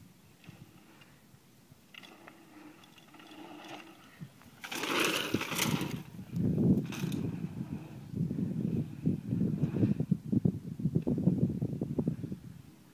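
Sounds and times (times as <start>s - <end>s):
bike tyres on dirt: 0.0s - 12.9s.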